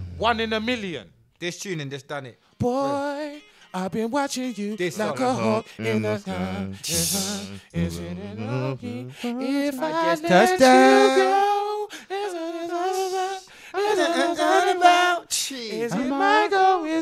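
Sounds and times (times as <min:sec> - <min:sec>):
men singing a cappella: 0:02.6 - 0:17.0.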